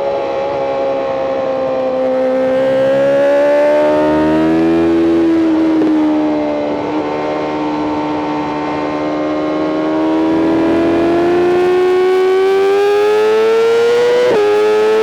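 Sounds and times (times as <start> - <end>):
motorcycle engine revving high: 0.2 - 15.0.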